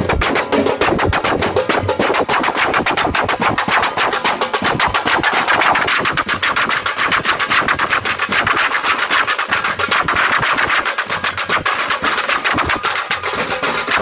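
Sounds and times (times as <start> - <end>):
frame drums beaten with sticks: 0.0 - 14.0.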